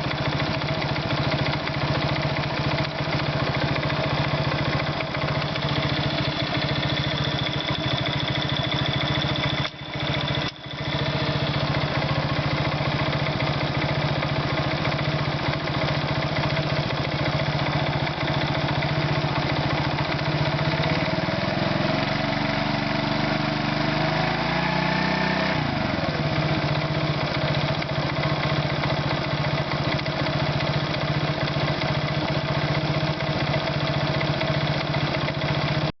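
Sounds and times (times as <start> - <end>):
moped engine idling and revving: 0.0 - 36.0.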